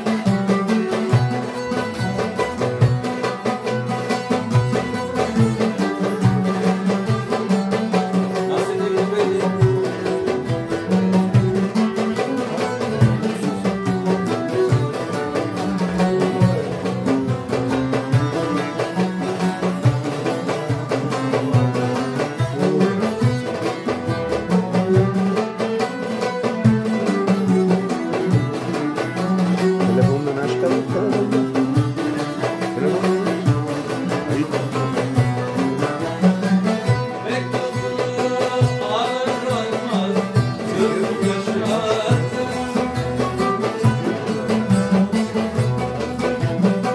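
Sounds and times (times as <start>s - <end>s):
hand-drum rhythm: 0.0s - 46.9s
oud: 0.0s - 46.9s
plucked lute: 0.0s - 46.9s
violin: 0.0s - 46.9s.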